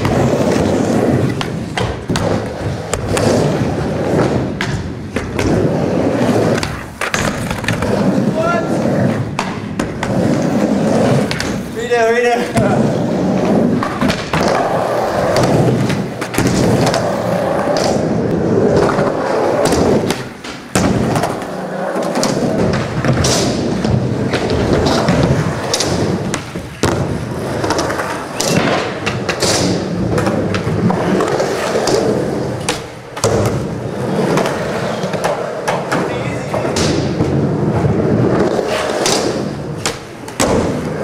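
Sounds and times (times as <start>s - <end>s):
skateboard clacks and thuds: 0.0s - 8.4s, 9.2s - 11.7s, 13.4s - 41.0s
skateboard wheels rolling on wood: 0.0s - 41.0s.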